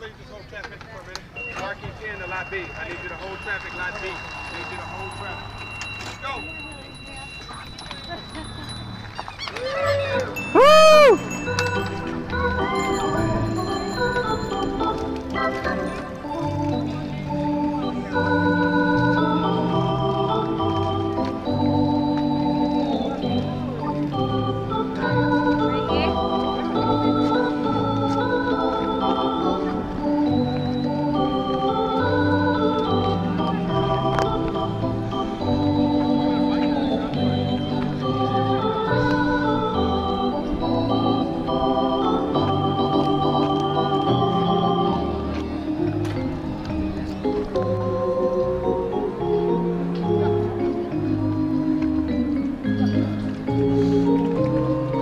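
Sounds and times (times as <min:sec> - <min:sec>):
organ music: 0:01.4 - 0:09.2, 0:10.0 - 0:55.0.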